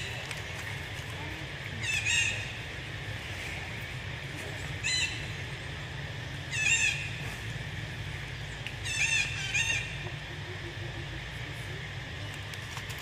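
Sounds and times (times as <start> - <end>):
forest insects hissing: 0.0 - 13.0.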